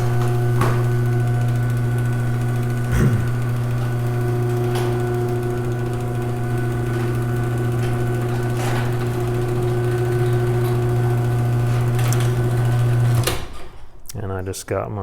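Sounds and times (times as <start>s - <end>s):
garage door opener motor humming: 0.0s - 14.1s.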